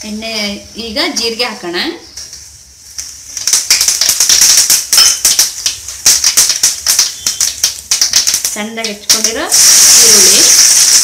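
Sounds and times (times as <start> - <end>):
seeds spluttering in hot oil: 2.0 - 11.0.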